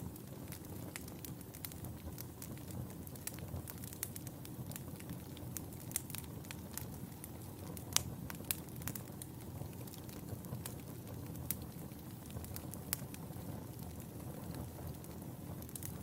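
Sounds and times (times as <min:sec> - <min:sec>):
fire crackling and popping: 0:00.0 - 0:16.0
fire rumbling in a fireplace: 0:00.0 - 0:16.0.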